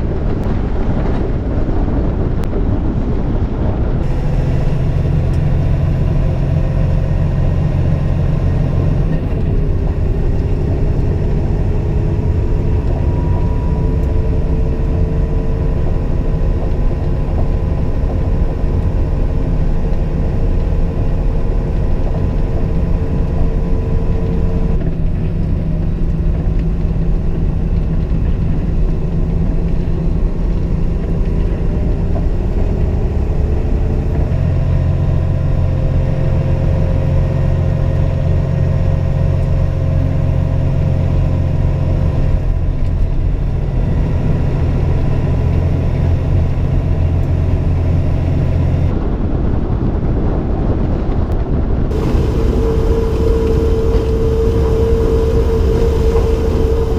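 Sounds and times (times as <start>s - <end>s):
truck diesel engine running: 0.0s - 49.2s, 49.8s - 56.9s.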